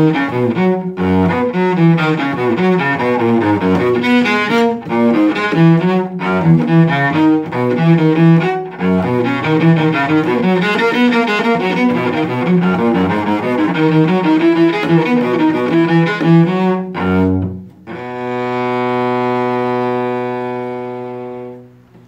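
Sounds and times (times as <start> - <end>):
bowed cello: 0.0 - 22.0.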